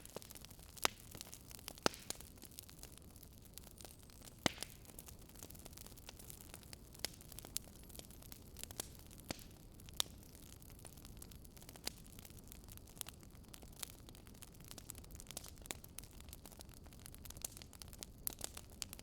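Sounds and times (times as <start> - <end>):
firewood crackling: 0.0 - 19.0.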